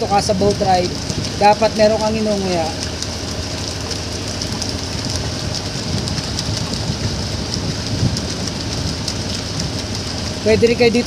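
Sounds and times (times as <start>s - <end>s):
motorboat engine running: 0.0s - 11.0s
water rushing against hull: 0.0s - 11.0s.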